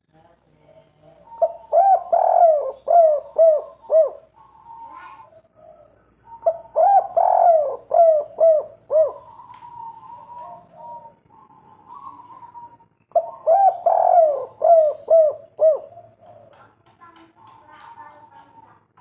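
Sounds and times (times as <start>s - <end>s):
dove cooing: 0.9s - 18.9s.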